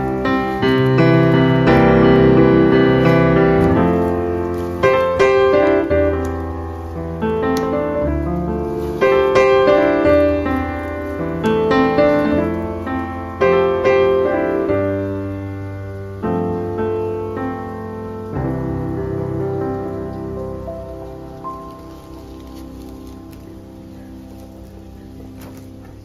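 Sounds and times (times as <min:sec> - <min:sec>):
slow piano chords: 0:00.0 - 0:26.0.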